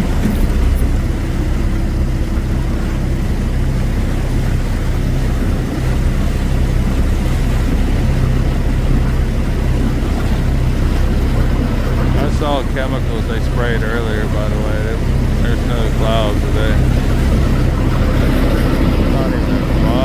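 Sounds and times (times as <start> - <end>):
engine droning steadily: 0.0 - 20.0.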